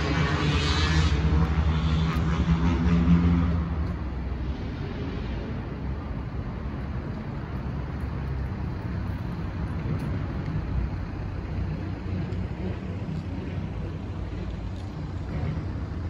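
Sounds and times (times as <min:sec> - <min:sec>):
urban background rumble: 0:00.0 - 0:16.0.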